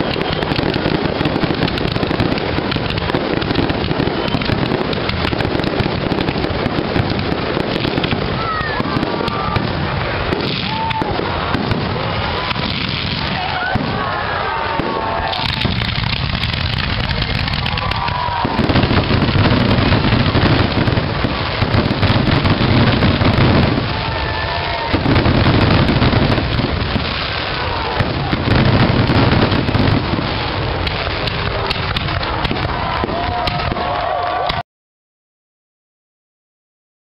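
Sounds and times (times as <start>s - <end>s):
deep firework booms: 0.0s - 34.3s
firework shells bursting: 0.0s - 34.6s
fireworks crackling: 0.0s - 34.6s.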